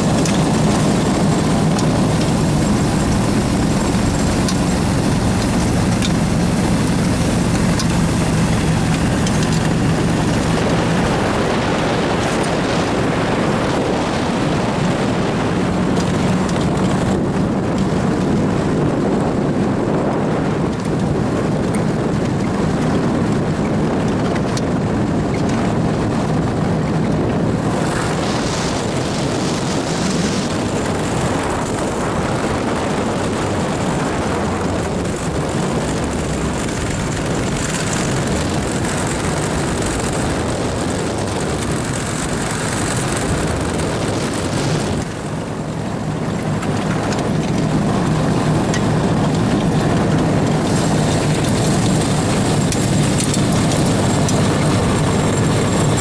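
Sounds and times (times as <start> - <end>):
small vehicle engine running: 0.0 - 19.4, 20.1 - 56.0
wind on microphone: 0.0 - 56.0.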